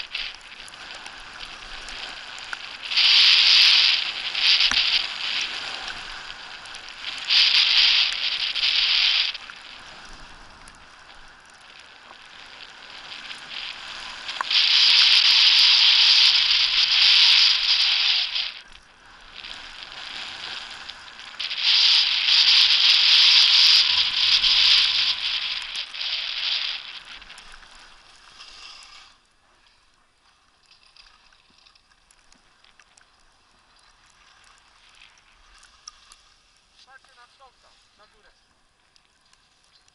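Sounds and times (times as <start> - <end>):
skis scraping over packed snow: 0.0 - 30.2, 32.5 - 39.9.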